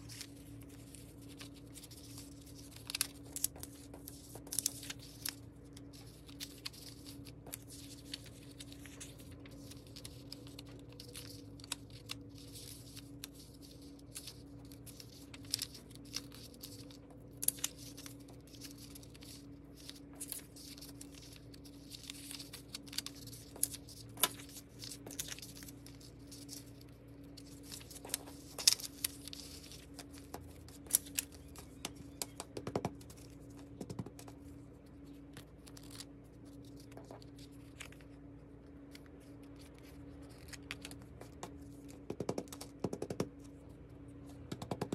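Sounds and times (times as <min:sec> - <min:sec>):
paper rustling: 0:00.0 - 0:38.2, 0:38.8 - 0:43.6
steady low hum: 0:00.0 - 0:44.9.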